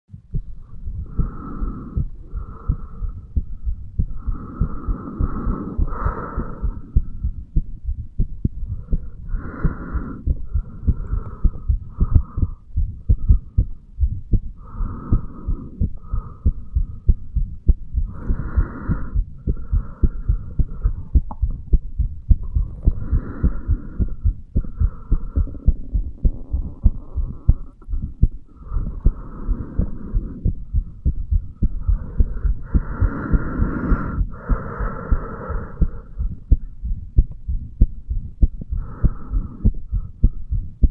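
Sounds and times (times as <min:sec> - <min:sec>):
heart murmur hiss: 0:00.1 - 0:40.9
heartbeat thumps: 0:00.1 - 0:40.9.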